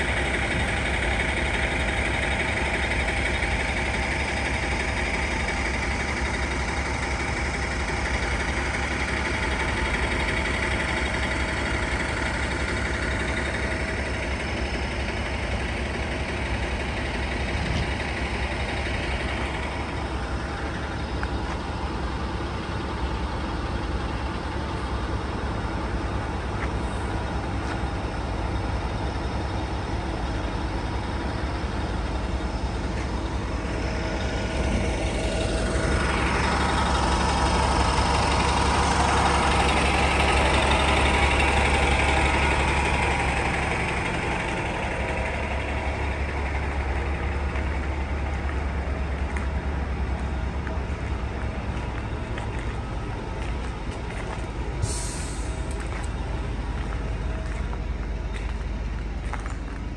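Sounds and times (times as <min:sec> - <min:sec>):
bus engines idling: 0:00.0 - 0:59.9.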